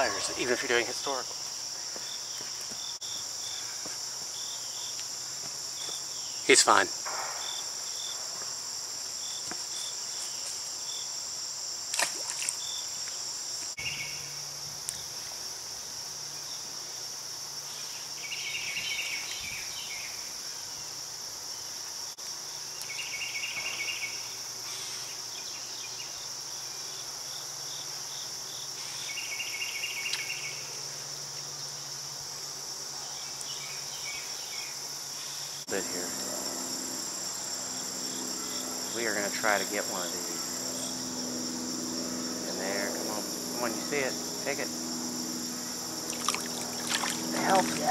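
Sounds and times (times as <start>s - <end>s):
insects trilling: 0.0s - 47.9s
rapid pulsed insect calls: 0.0s - 47.9s.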